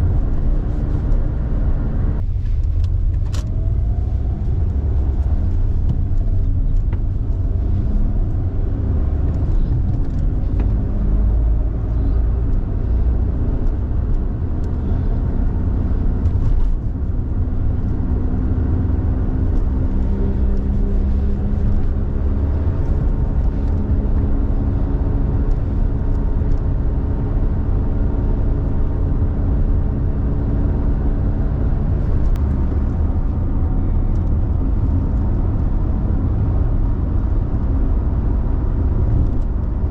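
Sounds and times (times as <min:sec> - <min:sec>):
tyre and road rumble: 0:00.0 - 0:39.9.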